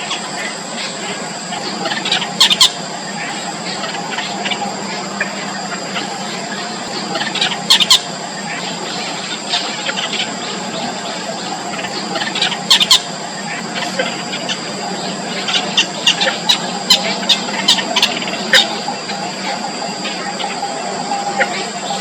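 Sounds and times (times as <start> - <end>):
small birds chirping: 0.0 - 22.0
steady high hum: 0.0 - 22.0.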